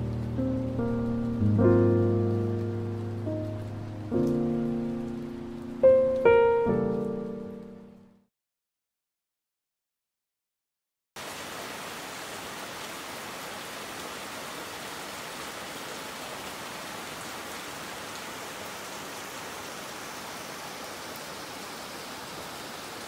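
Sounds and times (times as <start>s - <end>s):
rain on tiled roofs and leaves: 0.0s - 8.2s, 11.2s - 23.0s.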